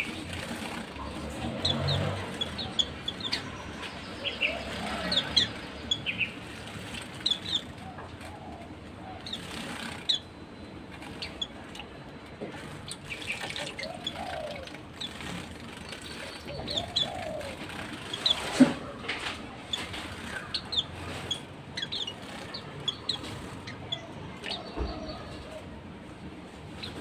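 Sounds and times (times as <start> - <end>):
wing flutters: 0.0 - 12.0, 12.6 - 24.8
birds chirping: 0.0 - 27.0.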